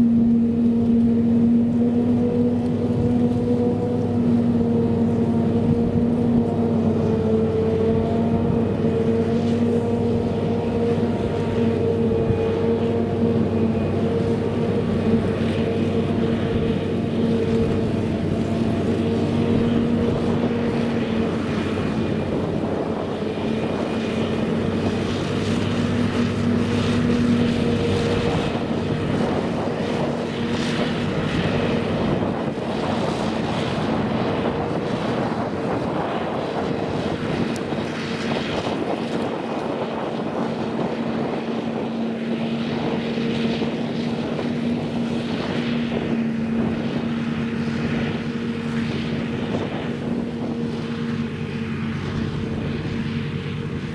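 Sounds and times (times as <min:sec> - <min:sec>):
forage harvester droning: 0:00.0 - 0:53.9.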